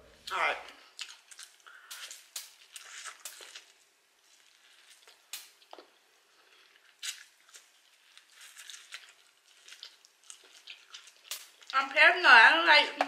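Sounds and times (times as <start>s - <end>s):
person chewing corn on the cob: 0.8s - 11.8s.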